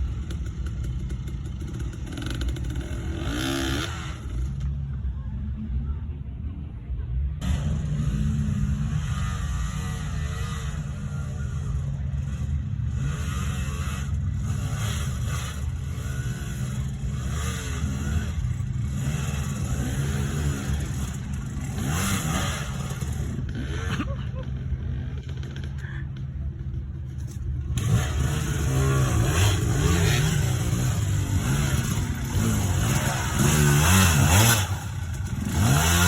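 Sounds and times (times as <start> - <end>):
dirt bike engine revving: 0.0 - 4.6, 7.4 - 36.0.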